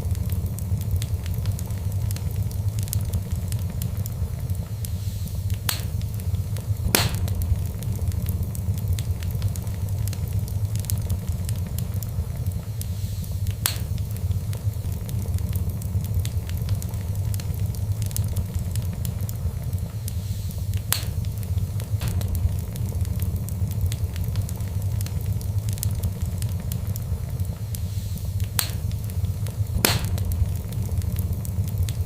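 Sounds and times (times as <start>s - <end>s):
fire crackling: 0.0s - 32.0s
loud fire pops: 0.0s - 32.0s
low rumble: 0.0s - 32.0s.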